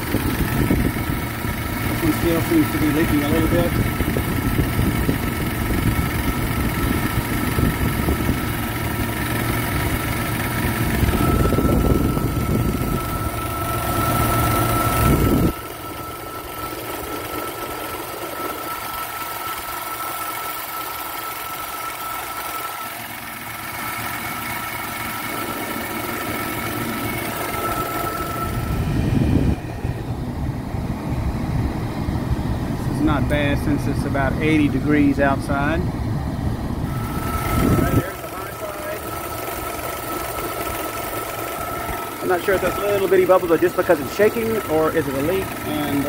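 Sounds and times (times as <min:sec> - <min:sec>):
car engine idling: 0:00.0 - 0:46.0
steady high whine: 0:00.0 - 0:46.0.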